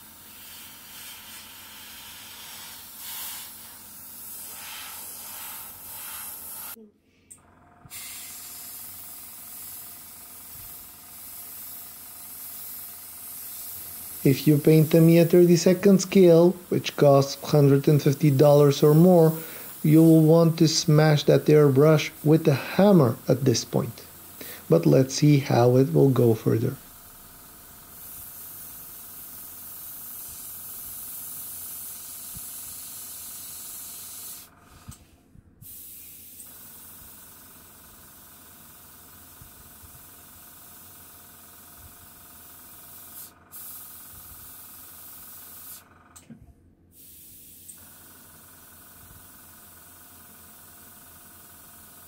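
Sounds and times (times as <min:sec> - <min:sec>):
airbrush air hiss: 0:00.0 - 0:06.8, 0:07.9 - 0:45.9, 0:46.9 - 0:52.0.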